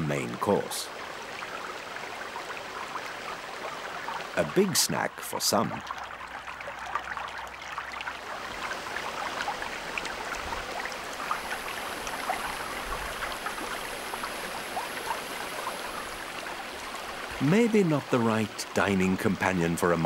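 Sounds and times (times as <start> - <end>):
river water rushing over rapids: 0.0 - 18.8
water gurgling and splashing: 0.0 - 20.0.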